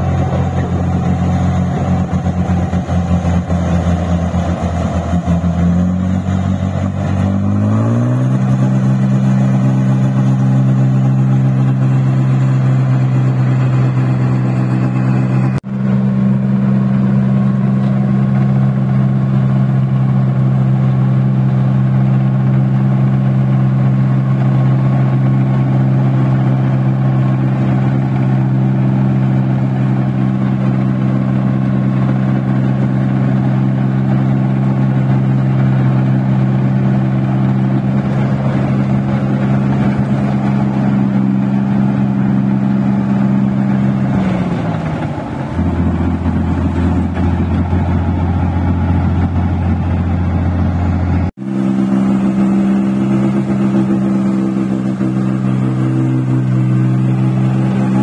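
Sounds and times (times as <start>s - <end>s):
diesel engine running loud: 0.0s - 58.0s.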